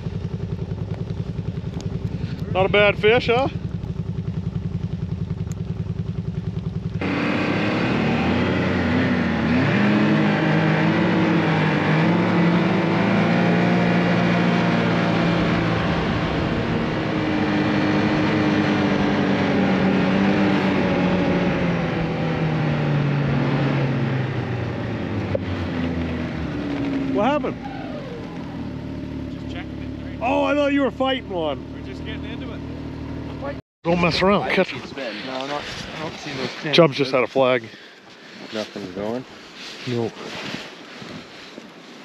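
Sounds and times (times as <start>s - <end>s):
vehicle engine idling and running: 0.0s - 39.9s.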